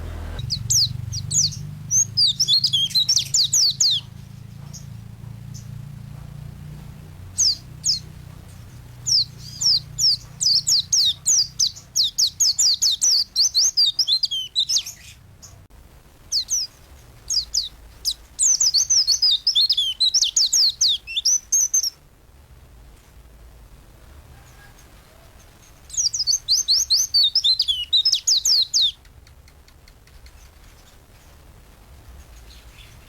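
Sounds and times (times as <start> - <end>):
white-eye bird singing: 0.0 - 5.9, 6.6 - 15.6, 16.3 - 22.0, 24.5 - 31.0, 32.3 - 33.0.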